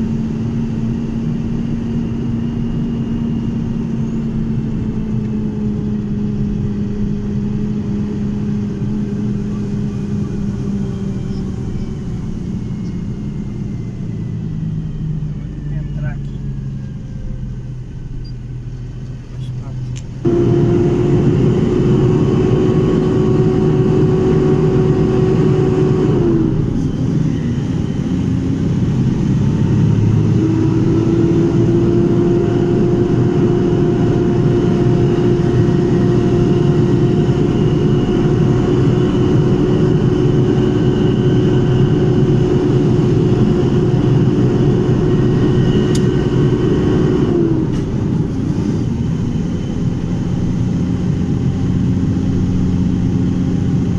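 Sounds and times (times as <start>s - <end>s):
mid-pitched whine: 0.0s - 53.9s
vehicle engine and road noise: 0.0s - 53.9s.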